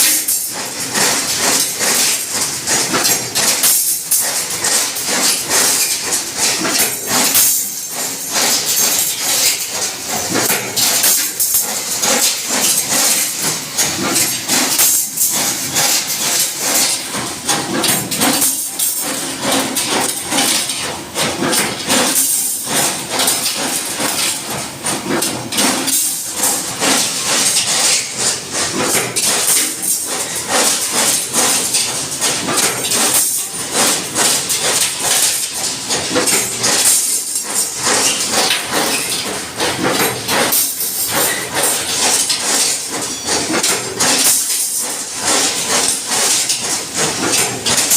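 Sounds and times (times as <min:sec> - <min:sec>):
construction machine running: 0:00.0 - 0:47.9.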